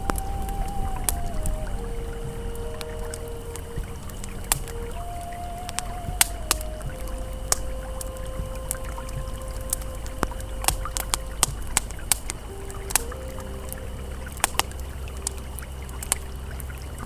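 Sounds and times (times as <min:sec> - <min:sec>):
campfire crackling: 0:00.0 - 0:17.0
river flowing: 0:00.0 - 0:17.0
soft sustained ambient tones: 0:00.0 - 0:17.0.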